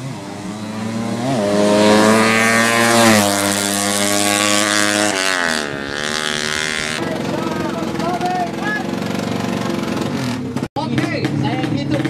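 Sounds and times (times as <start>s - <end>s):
motorcycle engine revving high: 0.0s - 12.0s.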